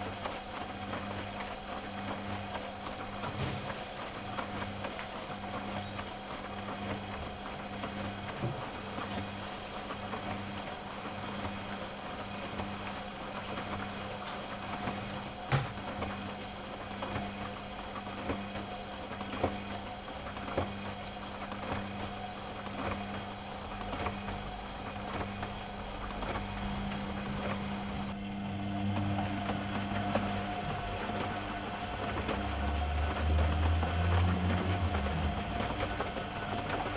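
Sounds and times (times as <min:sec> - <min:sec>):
washing machine motor hum: 0:00.0 - 0:36.9.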